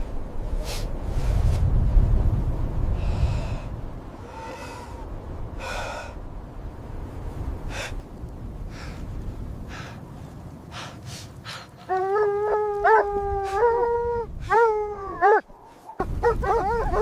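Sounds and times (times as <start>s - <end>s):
low wind-like rumble: 0.0s - 17.0s.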